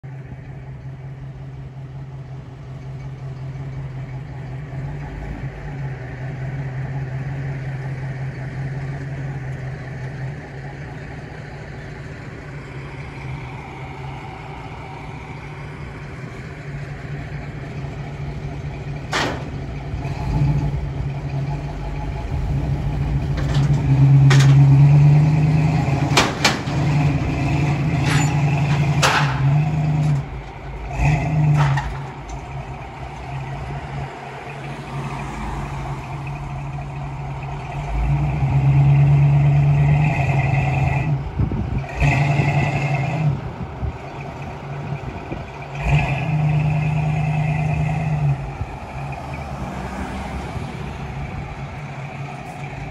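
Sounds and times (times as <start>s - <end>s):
car engines running: 0.0s - 52.9s.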